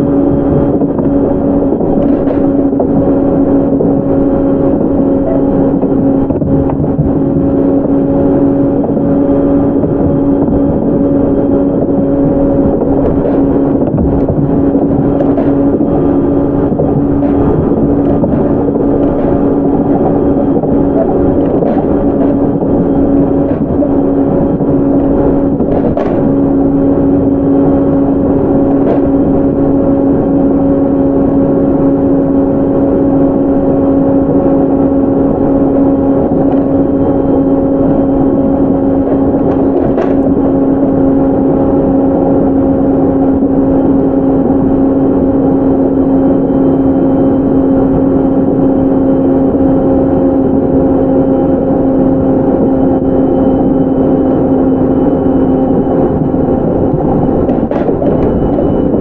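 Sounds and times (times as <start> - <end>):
electric drive hum: 0.0 - 59.0
train wheels rumbling on rail: 0.0 - 59.0.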